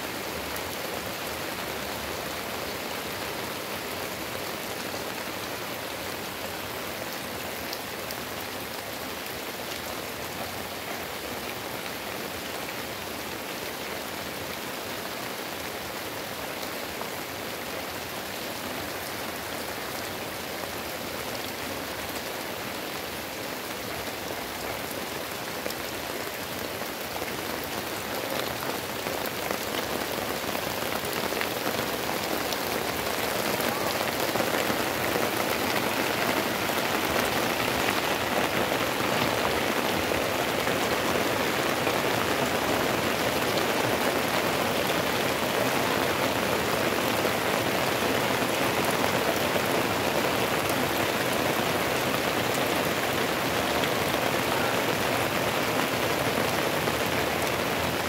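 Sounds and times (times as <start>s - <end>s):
heavy rain on leaves and roof: 0.0s - 58.0s.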